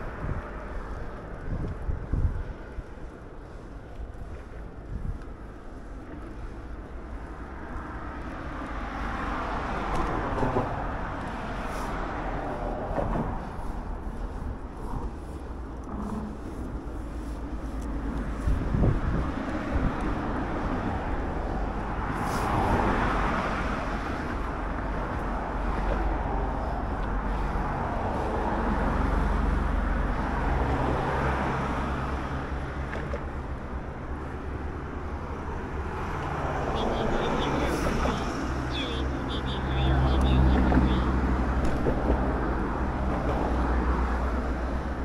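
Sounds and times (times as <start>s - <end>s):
cars passing: 0.0s - 45.0s
traffic rumble: 0.0s - 45.0s.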